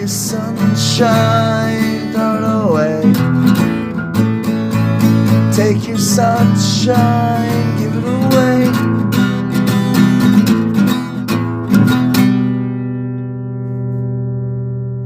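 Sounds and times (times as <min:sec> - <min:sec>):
acoustic guitar strumming: 0:00.0 - 0:15.0
guitar chord ringing: 0:00.0 - 0:15.0.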